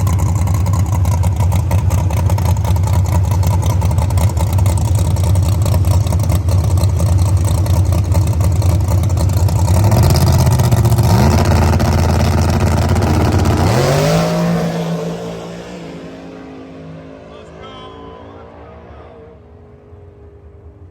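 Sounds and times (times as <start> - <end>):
drag race car engine: 0.0 - 20.9.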